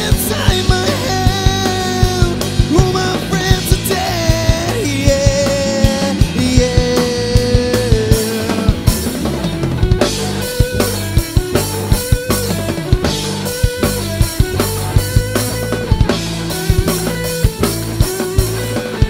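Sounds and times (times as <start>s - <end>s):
drum kit steady beat: 0.0s - 19.0s
electric bass: 0.0s - 19.0s
electric guitar: 0.0s - 19.0s.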